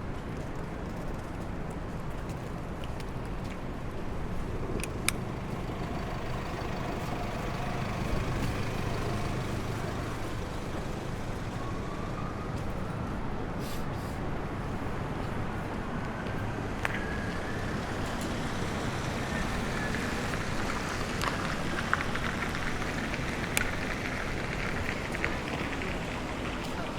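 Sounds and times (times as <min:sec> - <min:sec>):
traffic rumble: 0:00.0 - 0:26.9.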